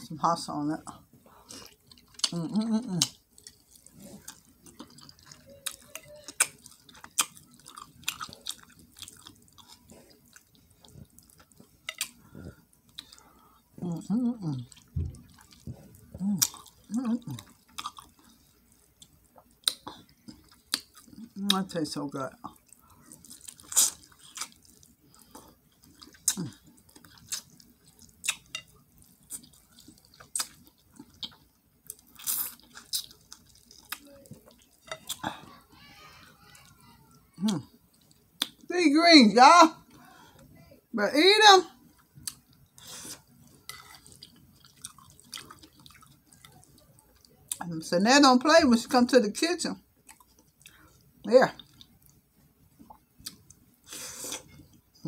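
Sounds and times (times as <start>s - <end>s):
person chewing with wet smacks: 0.8s - 38.7s, 41.8s - 47.8s, 49.9s - 55.0s.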